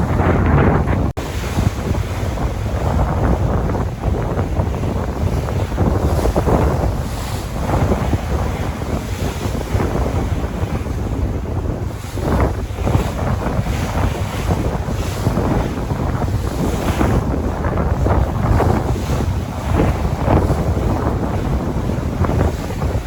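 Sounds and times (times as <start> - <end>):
sea waves washing: 0.0 - 23.0
wind buffeting microphone: 0.0 - 23.0.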